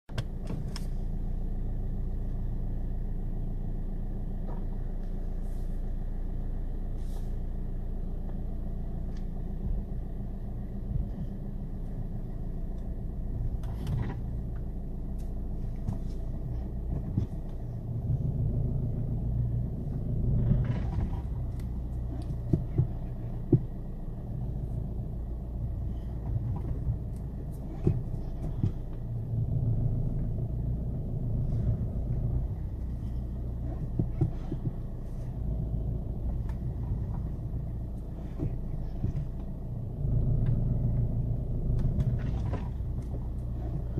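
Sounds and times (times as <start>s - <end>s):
diesel engine humming: 0.0s - 43.9s
car suspension clunks and knocks: 0.1s - 1.1s, 4.3s - 5.4s, 8.1s - 11.5s, 12.6s - 43.9s.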